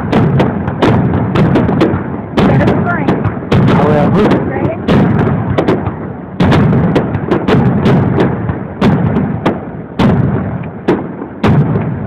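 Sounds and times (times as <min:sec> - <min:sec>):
fireworks shells booming: 0:00.0 - 0:12.0.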